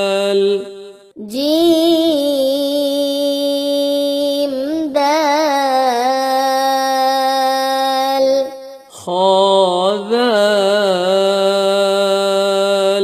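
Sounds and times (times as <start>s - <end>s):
person chanting melodic recitation: 0.0s - 13.0s.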